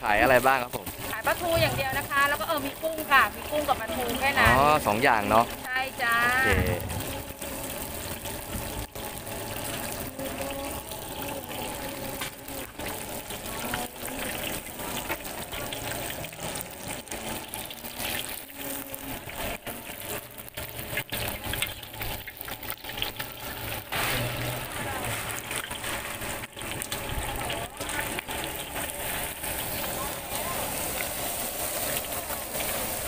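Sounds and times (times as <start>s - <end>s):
deep-frying sizzle with crackling: 0.0s - 33.0s.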